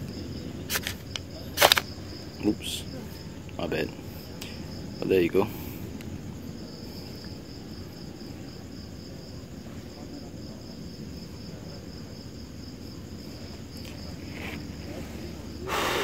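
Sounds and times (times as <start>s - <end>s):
low rumbling background noise: 0.0s - 16.0s
night insects trilling: 0.0s - 16.0s.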